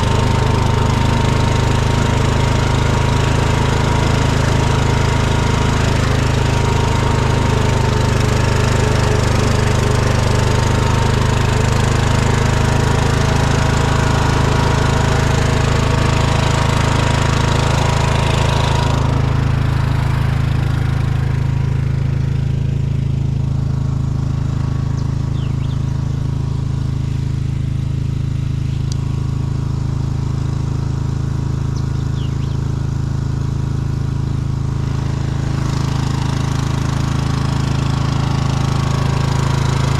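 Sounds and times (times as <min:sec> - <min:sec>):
lawn tractor engine humming: 0:00.0 - 0:39.9.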